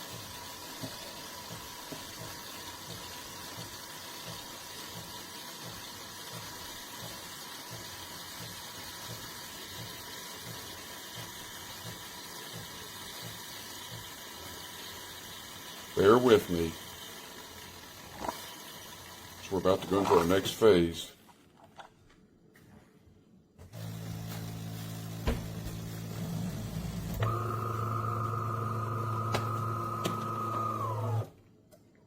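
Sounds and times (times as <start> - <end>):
espresso machine hissing: 0.0 - 20.4, 23.8 - 31.3.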